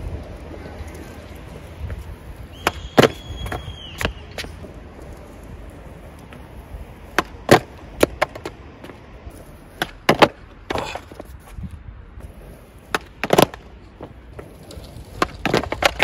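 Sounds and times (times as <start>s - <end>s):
skateboard wheels rolling: 0.0s - 16.0s
skateboard deck clacking on concrete: 0.2s - 6.4s, 7.0s - 11.4s, 12.2s - 16.0s.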